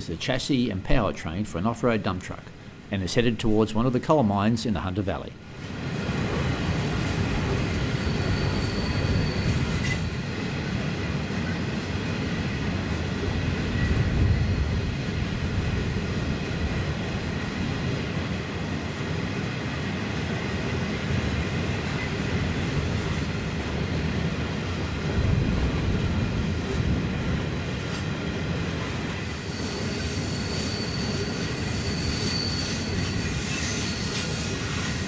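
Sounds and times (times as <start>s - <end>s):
train wagons rumbling on rails: 0.0s - 35.0s.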